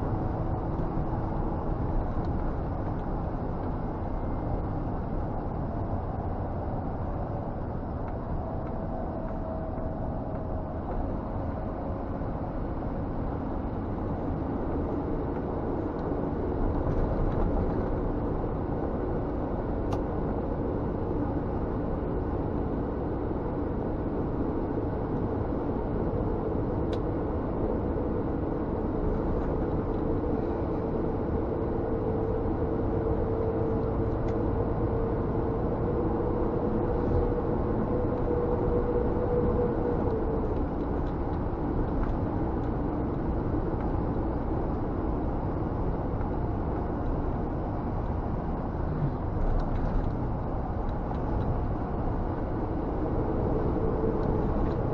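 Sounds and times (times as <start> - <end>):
truck diesel engine rumble: 0.0 - 54.9.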